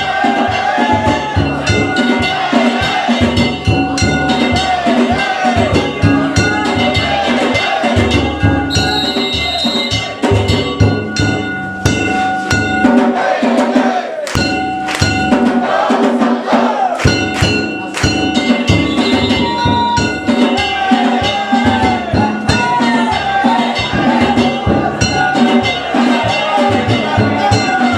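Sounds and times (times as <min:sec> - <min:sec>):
drums in fast rhythm: 0:00.0 - 0:27.9
metal gongs ringing: 0:00.6 - 0:13.2, 0:14.4 - 0:15.7, 0:17.1 - 0:27.9.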